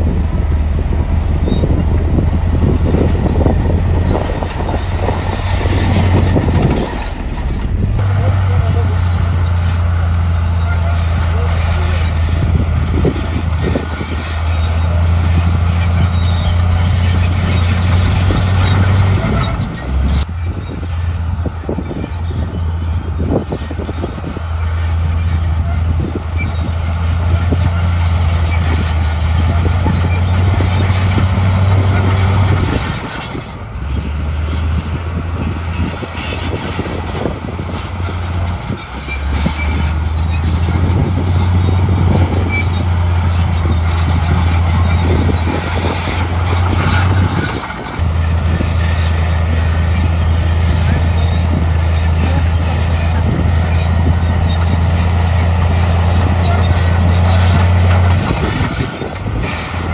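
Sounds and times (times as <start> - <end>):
bulldozer diesel engine droning: 0.0 - 59.9
track clanks and rattles: 0.0 - 59.9.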